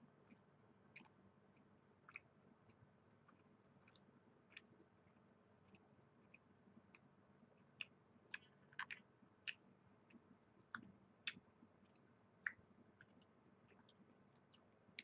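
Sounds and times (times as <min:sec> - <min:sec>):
chewing with wet mouth clicks: 0:00.2 - 0:15.0.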